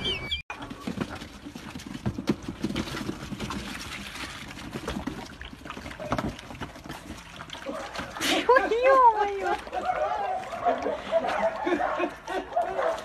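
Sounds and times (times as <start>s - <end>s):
puppies scuffling: 0.5s - 13.0s
puppies lapping milk: 0.7s - 13.0s.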